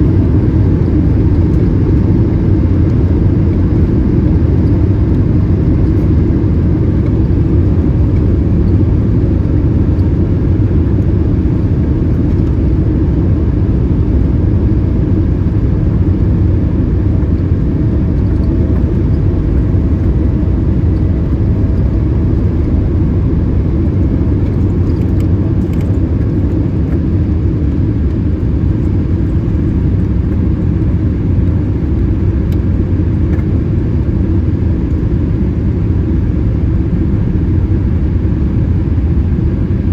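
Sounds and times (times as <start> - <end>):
airliner engine rumble in cabin: 0.0 - 39.9.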